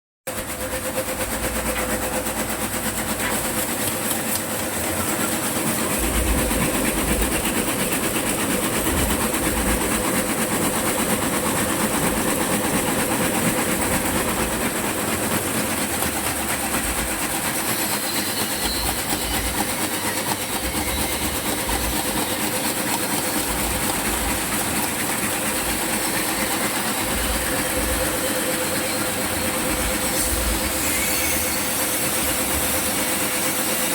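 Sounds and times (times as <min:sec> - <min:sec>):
machine hum: 0:00.3 - 0:33.9.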